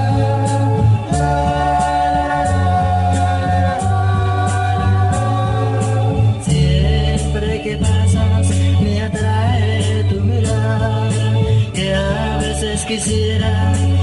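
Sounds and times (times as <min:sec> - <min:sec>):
instrumental love song: 0:00.0 - 0:14.0.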